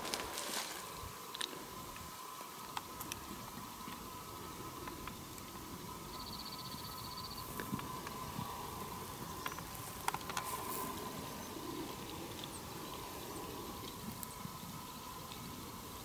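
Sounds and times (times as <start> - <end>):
faint crackling and rustling: 0.0 - 16.0
faint high whine: 0.0 - 16.0.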